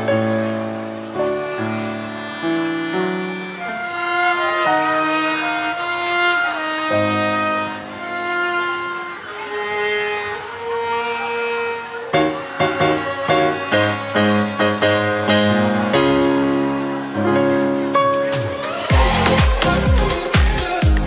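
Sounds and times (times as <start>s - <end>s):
violin melody: 0.0s - 20.8s
flute melody: 0.0s - 21.0s.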